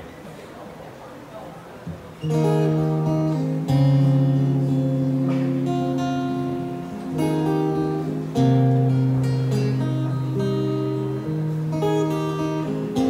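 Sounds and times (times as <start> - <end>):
acoustic guitars strumming chords: 2.2 - 13.0.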